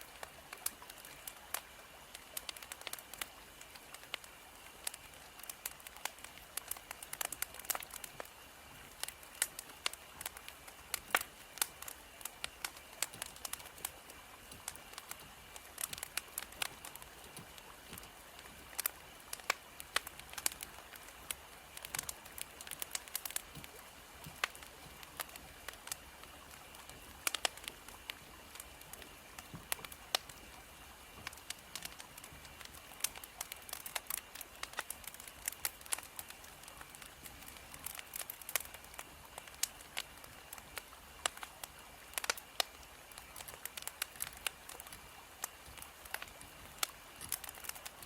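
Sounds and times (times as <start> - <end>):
faint steady hiss: 0.0 - 48.0
wood fire crackling: 0.0 - 48.0.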